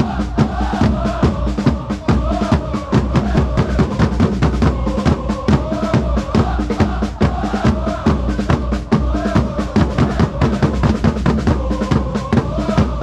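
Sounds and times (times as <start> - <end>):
bass drums beating: 0.0 - 13.0
crowd singing a chant: 0.0 - 13.0.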